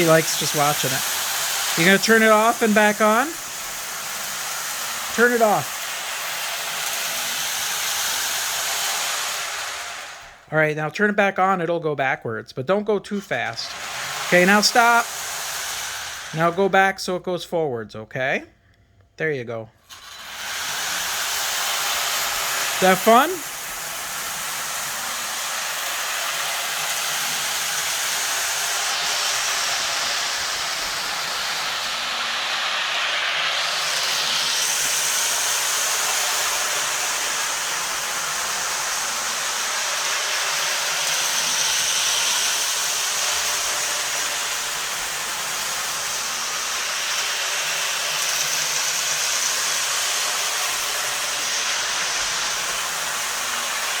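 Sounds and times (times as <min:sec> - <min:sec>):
toy electric train whirring: 0:00.0 - 0:10.5, 0:13.1 - 0:16.9, 0:19.8 - 0:54.0.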